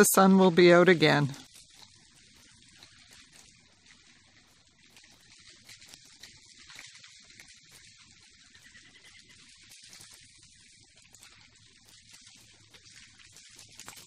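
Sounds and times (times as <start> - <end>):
light irregular ticks: 1.3 - 14.0.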